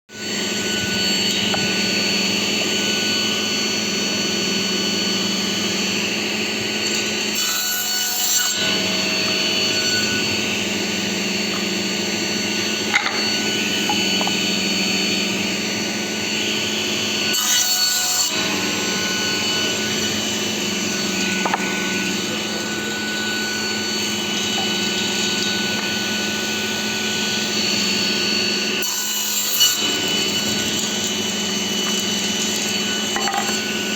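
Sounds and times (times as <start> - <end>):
power tool motor humming on wood: 0.2 - 33.9.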